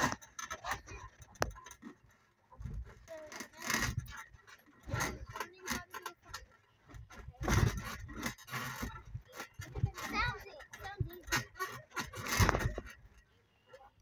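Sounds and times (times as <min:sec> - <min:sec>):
netting rubbing and scraping: 0:00.0 - 0:13.8.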